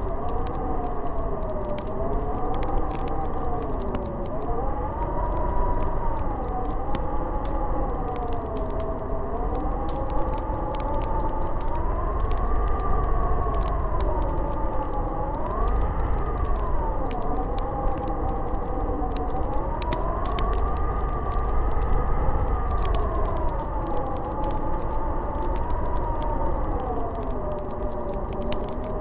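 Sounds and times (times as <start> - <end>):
low rumble of gusts: 0.0 - 29.0
small ticks: 0.0 - 29.0
wind howling and whistling: 0.0 - 29.0.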